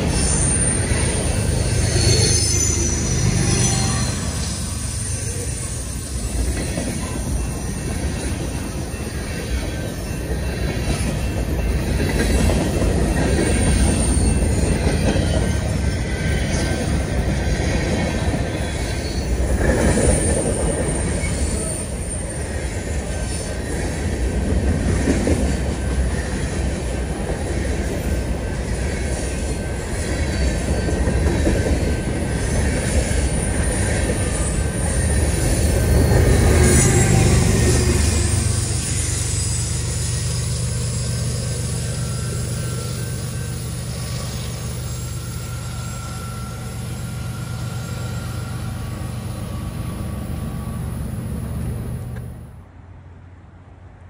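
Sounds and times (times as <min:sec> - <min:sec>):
wheel flange squeal: 0:00.0 - 0:24.2, 0:27.7 - 0:51.8
train wheels rumbling on rails: 0:00.0 - 0:52.6.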